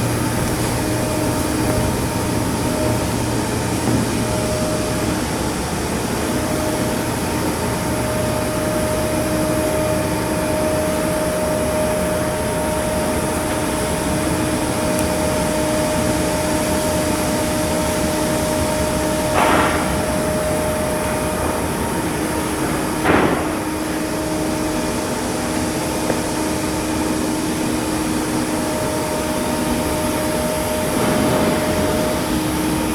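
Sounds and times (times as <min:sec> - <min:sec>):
machinery running with whine: 0:00.0 - 0:32.9.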